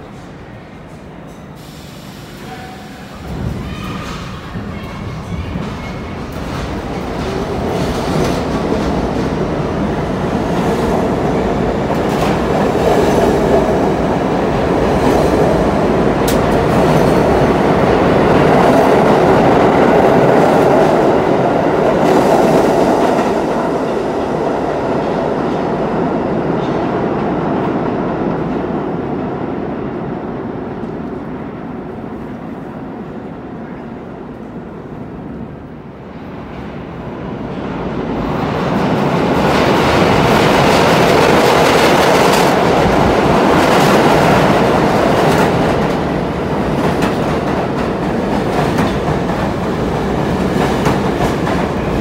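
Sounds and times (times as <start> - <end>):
subway train pulling out: 0.0 - 52.0.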